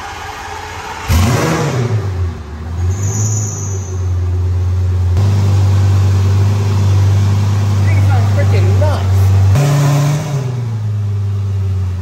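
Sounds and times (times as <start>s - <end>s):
sports car engine starting and idling: 0.0s - 12.0s.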